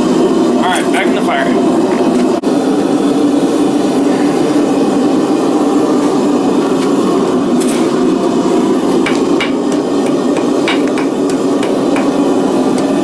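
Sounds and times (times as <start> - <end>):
forge rushing noise: 0.0 - 13.0.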